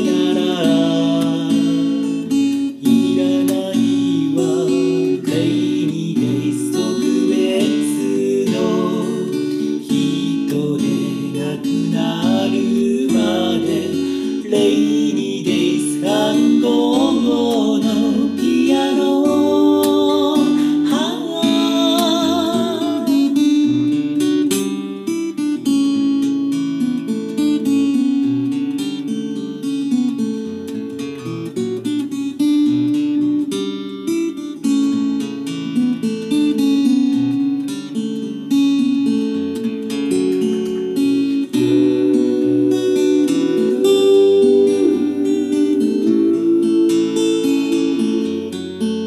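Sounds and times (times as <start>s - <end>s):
fingerpicked acoustic guitar: 0.0s - 49.0s.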